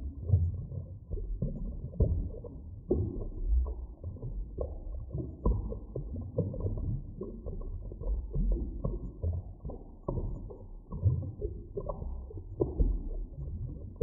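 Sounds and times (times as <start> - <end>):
underwater rumble: 0.0 - 14.0.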